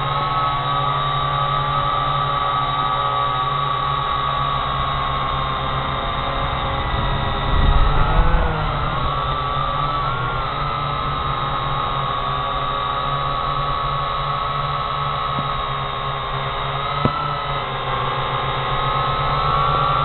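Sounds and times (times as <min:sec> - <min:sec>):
drone propellers whirring: 0:00.0 - 0:20.0.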